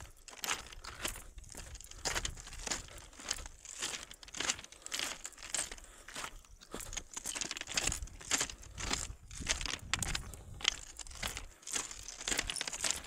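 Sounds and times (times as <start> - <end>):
footsteps crunching on stone ballast: 0.0 - 13.0.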